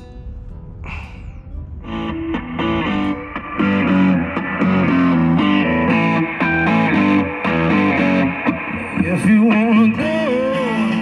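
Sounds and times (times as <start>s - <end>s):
rock music with electric guitar: 1.7s - 11.0s.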